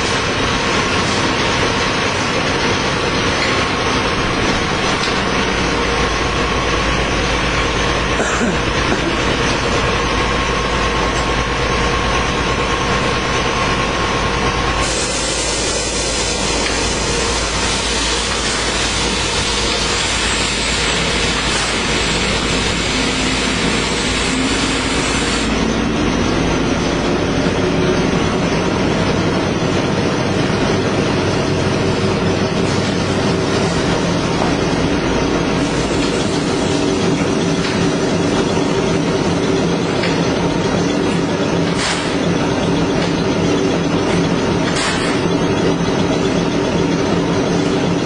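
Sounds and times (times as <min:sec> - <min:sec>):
loud machinery humming: 0:00.0 - 0:48.0.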